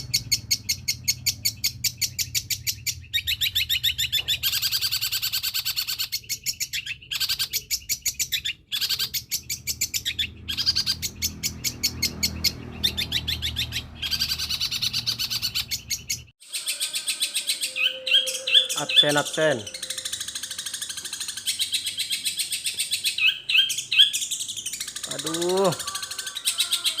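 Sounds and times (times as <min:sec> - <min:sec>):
bird singing high chattering notes: 0:00.0 - 0:27.0.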